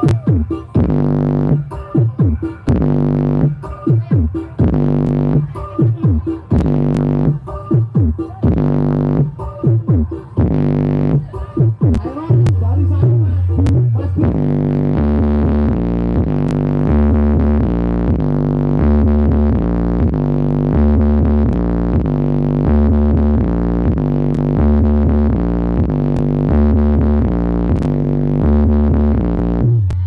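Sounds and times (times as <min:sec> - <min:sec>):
electronic dance music: 0:00.0 - 0:30.0.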